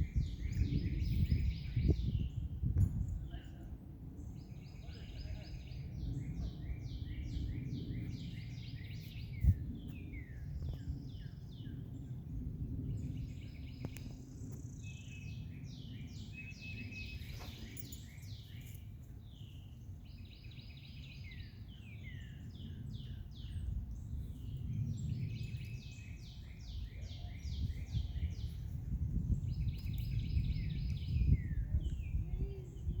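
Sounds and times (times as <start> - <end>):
songbirds singing: 0.0 - 33.0.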